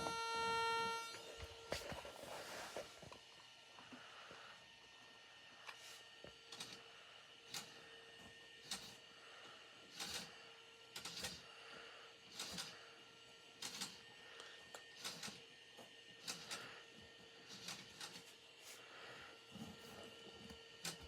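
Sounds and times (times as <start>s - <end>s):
faint motor hum: 0.0s - 21.0s.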